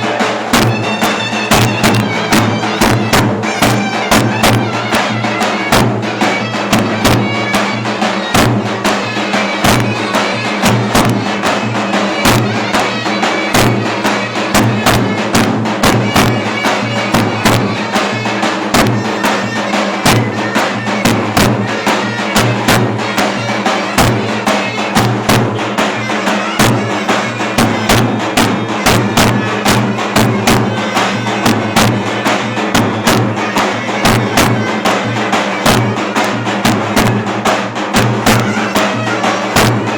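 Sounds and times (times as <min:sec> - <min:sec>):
clarinet playing reedy melody: 0:00.0 - 0:37.5, 0:38.2 - 0:39.9.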